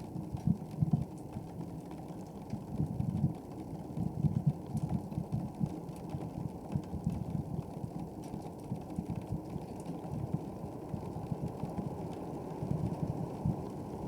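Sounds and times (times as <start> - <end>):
wood fire rumbling flames: 0.1 - 14.0.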